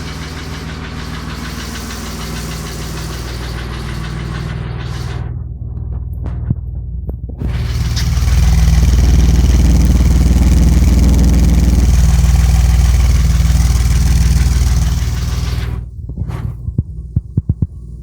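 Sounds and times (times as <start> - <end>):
car engine revving: 0.0 - 17.3
engine knocking: 0.0 - 17.8.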